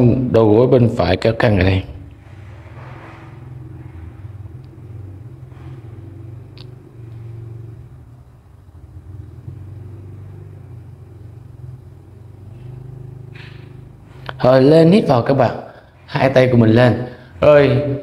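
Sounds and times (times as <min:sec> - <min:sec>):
low rumbling hum: 0:00.0 - 0:18.0.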